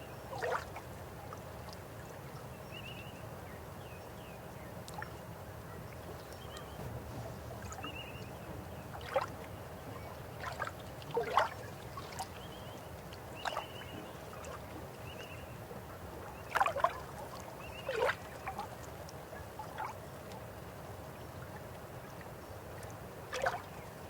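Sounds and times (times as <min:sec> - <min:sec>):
river water flowing: 0:00.0 - 0:02.6, 0:04.8 - 0:24.0.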